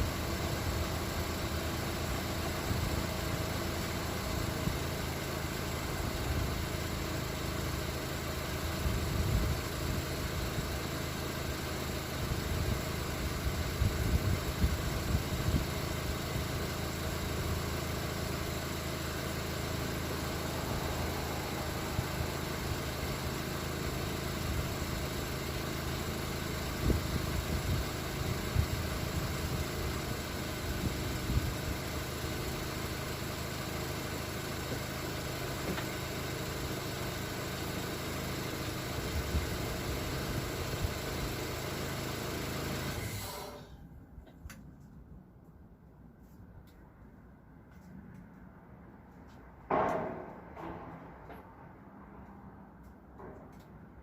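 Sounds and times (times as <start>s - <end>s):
car engine idling: 0.0s - 43.2s.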